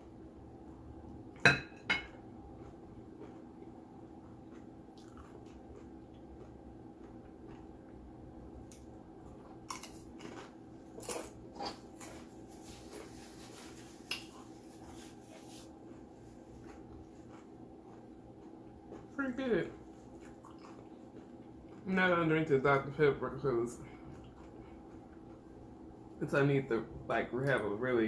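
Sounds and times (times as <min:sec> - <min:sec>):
low room hum: 0:00.0 - 0:28.0
person chewing food: 0:02.0 - 0:22.9, 0:23.8 - 0:26.2
food crunching: 0:02.1 - 0:26.2.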